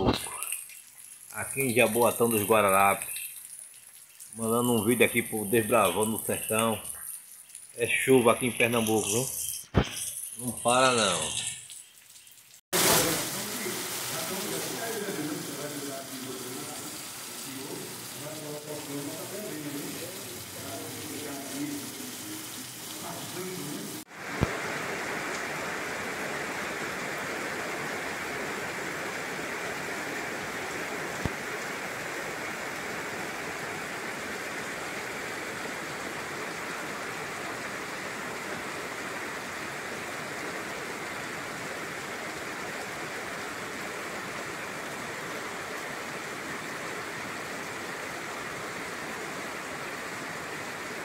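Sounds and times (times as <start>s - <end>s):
heavy rain pouring: 0.0s - 51.0s
water running off pavement: 0.0s - 51.0s.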